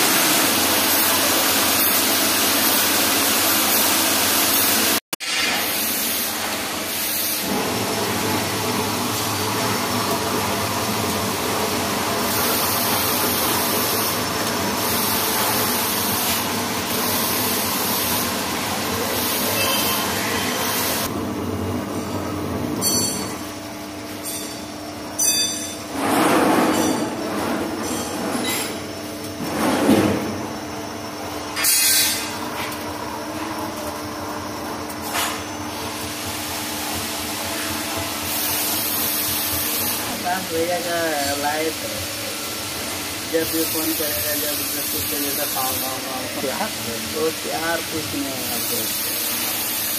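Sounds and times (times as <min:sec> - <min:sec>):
coolant spray and cutting hiss: 0:00.0 - 0:21.1, 0:27.8 - 0:34.2, 0:34.8 - 0:49.9
lathe running hum: 0:05.9 - 0:25.2, 0:27.1 - 0:49.9.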